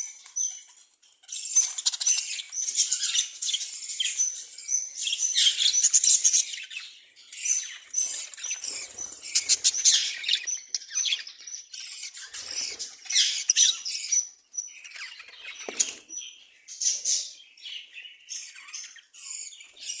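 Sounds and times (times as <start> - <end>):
budgerigars chirping and chattering: 0.0 - 20.0.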